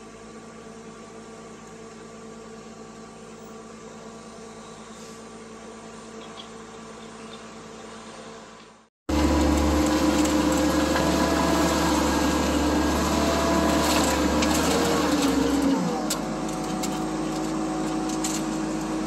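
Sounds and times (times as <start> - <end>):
skid steer engine running: 0.0 - 19.0.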